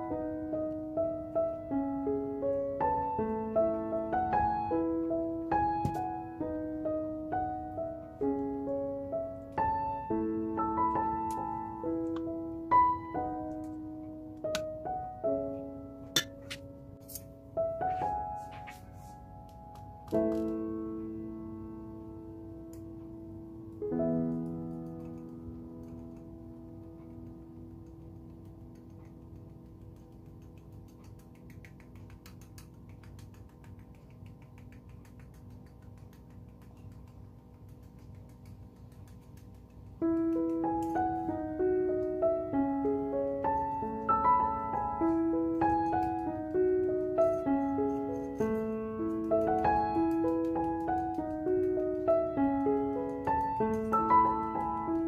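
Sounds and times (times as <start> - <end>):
faint room noise: 0.0 - 55.0
slow piano chords: 0.0 - 55.0.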